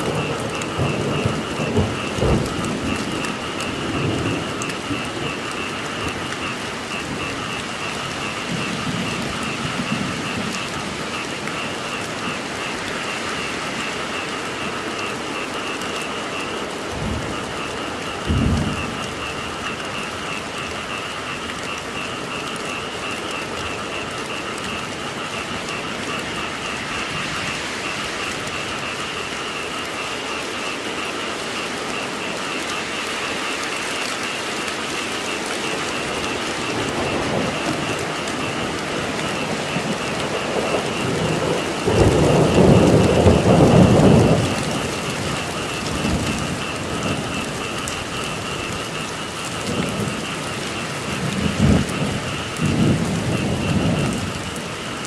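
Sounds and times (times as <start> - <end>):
frogs calling: 0.0 - 55.0
steady rain falling: 0.0 - 55.0
thunder rumbling: 0.0 - 55.0.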